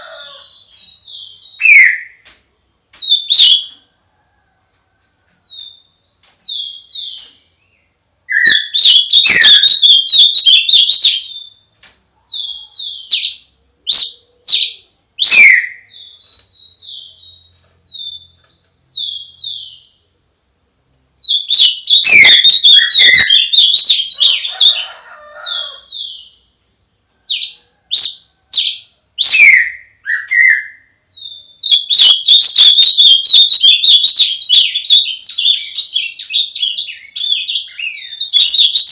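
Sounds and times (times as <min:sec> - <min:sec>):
songbird trilling and whistling: 0:00.4 - 0:02.2, 0:03.0 - 0:03.8, 0:05.5 - 0:07.4, 0:08.3 - 0:19.9, 0:21.1 - 0:26.4, 0:27.3 - 0:38.9.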